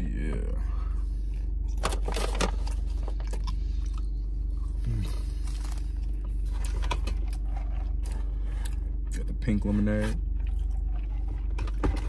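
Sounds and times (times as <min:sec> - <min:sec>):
closed-mouth hum: 0:00.0 - 0:12.0
low hum inside car: 0:00.0 - 0:12.0
person chewing crunchy fries: 0:01.3 - 0:12.0.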